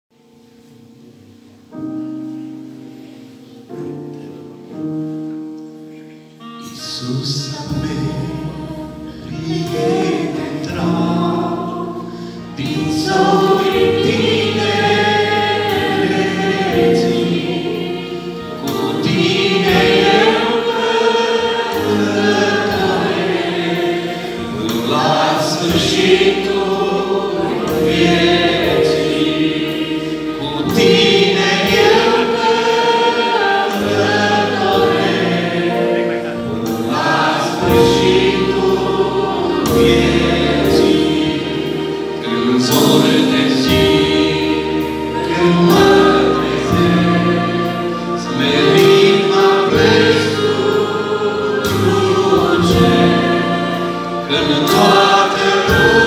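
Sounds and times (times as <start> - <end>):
held keyboard chords: 0.2 - 56.0
people singing into microphones: 6.8 - 56.0.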